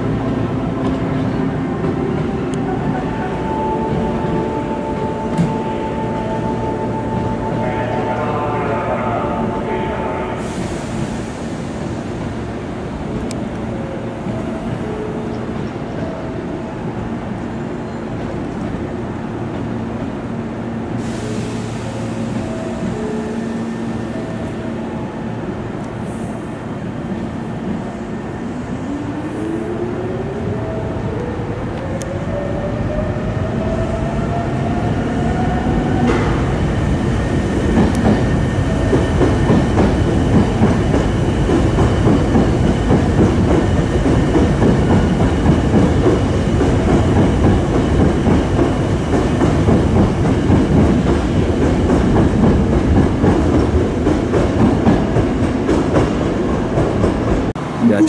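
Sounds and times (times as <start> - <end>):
train wheels rumbling and clattering: 0.0 - 7.6, 10.4 - 57.8.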